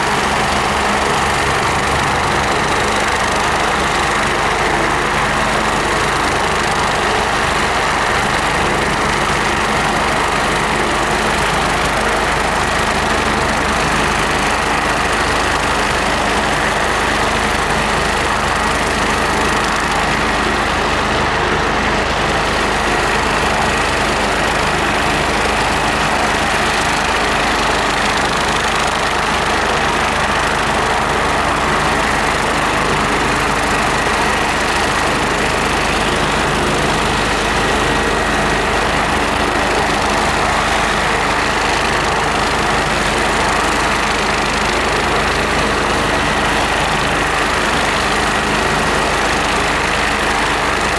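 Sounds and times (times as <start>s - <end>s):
helicopter turbine engine running: 0.0s - 50.9s.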